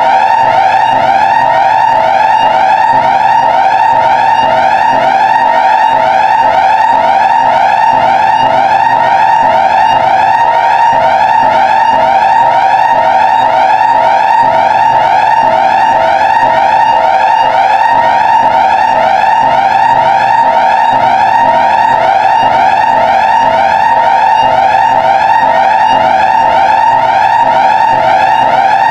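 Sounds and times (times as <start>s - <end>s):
emergency alert alarm: 0.0s - 28.9s.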